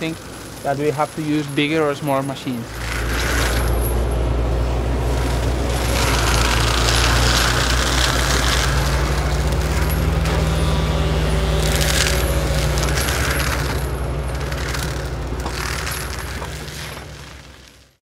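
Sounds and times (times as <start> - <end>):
diesel engine running under load: 0.0 - 17.9
brush cutter shredding brush: 0.0 - 18.0
crackling and snapping debris: 0.0 - 18.0.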